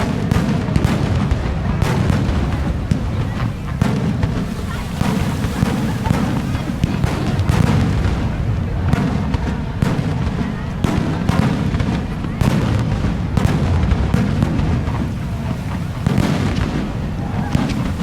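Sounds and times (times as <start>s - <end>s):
fireworks bursting: 0.0s - 18.0s
low rumble of booms: 0.0s - 18.0s.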